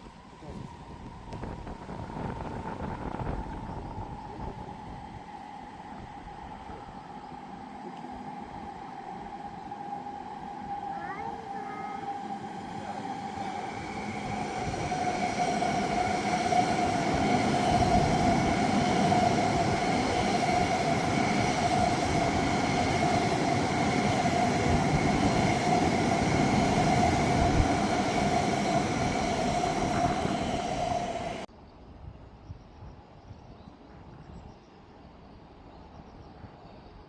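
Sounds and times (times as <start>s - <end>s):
high train whine: 0.0s - 31.5s
train rumble: 0.0s - 31.5s.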